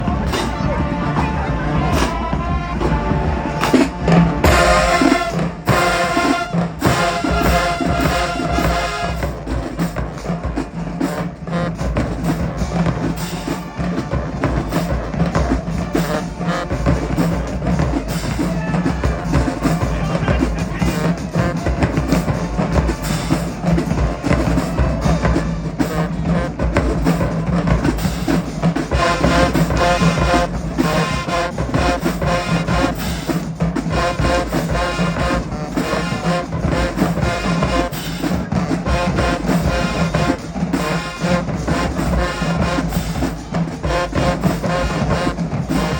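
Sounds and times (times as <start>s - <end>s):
bass drums beating: 0.0s - 45.9s
horns playing: 0.0s - 45.9s
marching band playing: 0.0s - 45.9s.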